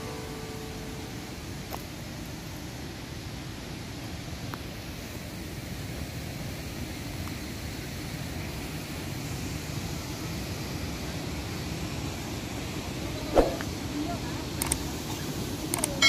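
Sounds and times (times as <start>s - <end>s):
distant waterfall roaring: 0.0s - 16.0s.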